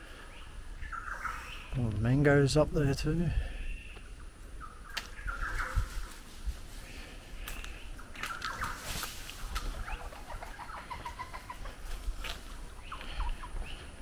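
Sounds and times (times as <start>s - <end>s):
birds chirping and whistling: 0.0s - 1.8s, 3.3s - 11.8s, 12.5s - 14.0s.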